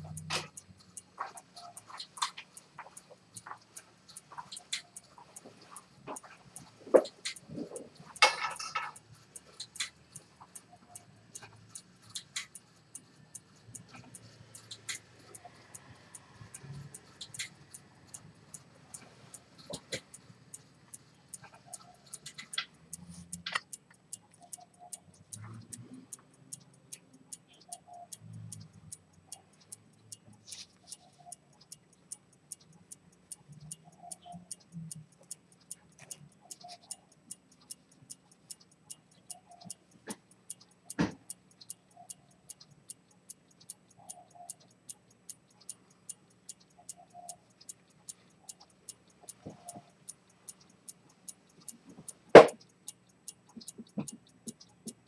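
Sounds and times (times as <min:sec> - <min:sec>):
watch ticking: 0:00.0 - 0:55.0.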